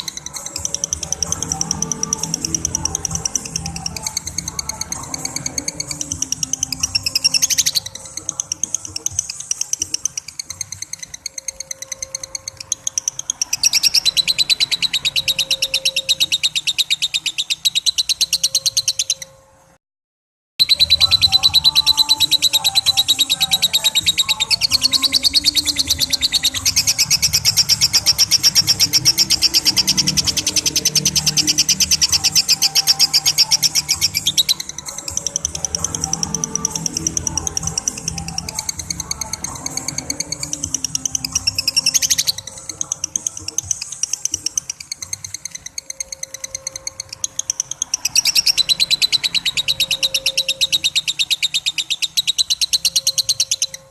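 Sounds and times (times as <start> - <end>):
lovebird chattering trill: 0.0 - 19.4, 20.6 - 53.9.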